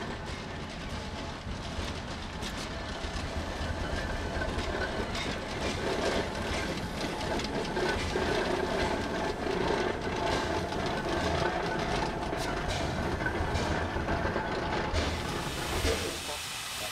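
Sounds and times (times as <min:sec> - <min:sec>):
locomotive running gear: 0:00.0 - 0:16.4
steam locomotive chuffing: 0:00.0 - 0:16.9.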